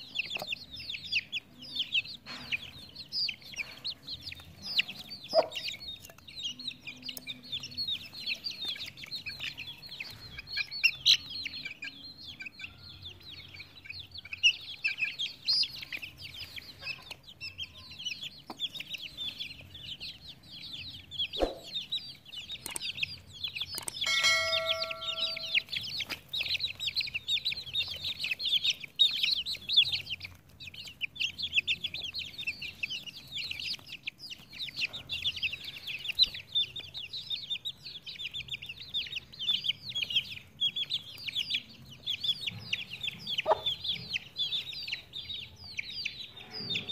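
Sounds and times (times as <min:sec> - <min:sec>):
chicks cheeping: 0:00.0 - 0:46.9.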